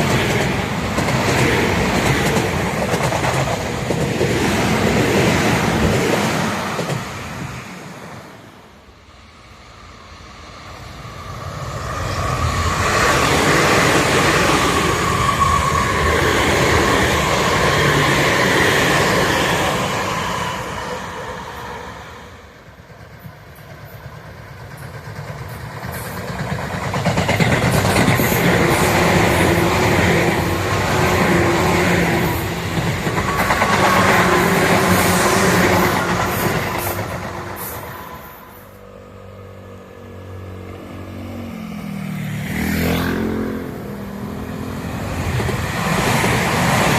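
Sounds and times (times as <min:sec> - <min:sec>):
electric trains passing: 0:00.0 - 0:46.9.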